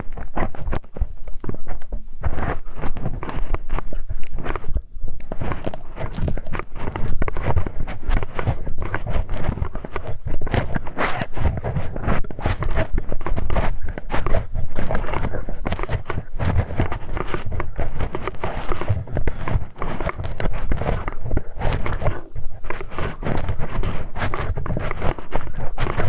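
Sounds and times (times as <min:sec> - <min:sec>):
scratching and rubbing at microphone: 0:00.0 - 0:26.0.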